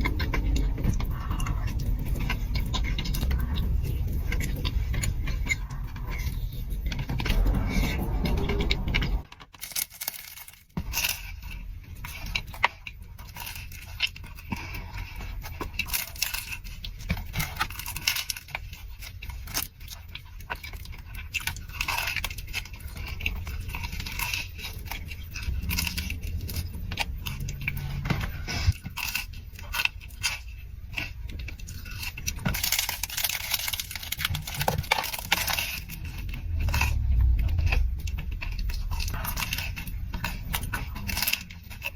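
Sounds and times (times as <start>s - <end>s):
crunching and chewing: 0.0s - 41.9s.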